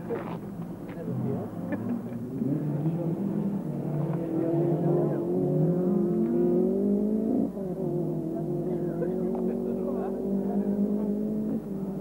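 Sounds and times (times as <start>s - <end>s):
car engine accelerating hard: 1.0s - 12.0s.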